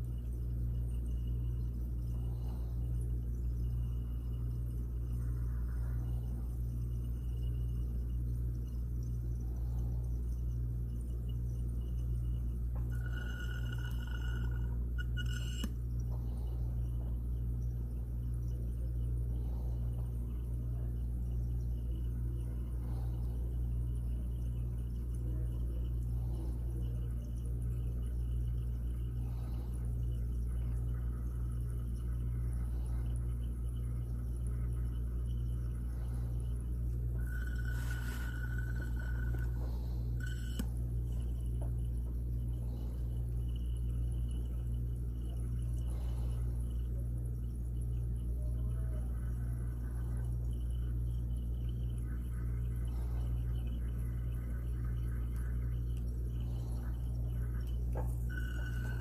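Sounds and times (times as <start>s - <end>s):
low pulsing hum: 0.0s - 59.0s
water trickling into glass: 0.0s - 59.0s.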